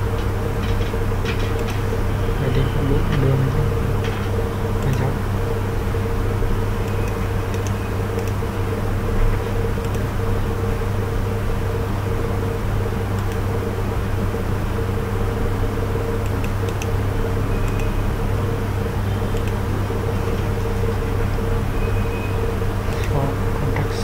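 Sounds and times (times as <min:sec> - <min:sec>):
fan-like background noise: 0:00.0 - 0:24.0
steady low hum: 0:00.0 - 0:24.0.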